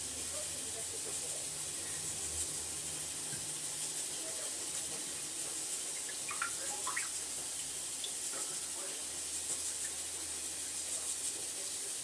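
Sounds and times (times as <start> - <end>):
running water rushing: 1.1 - 12.0.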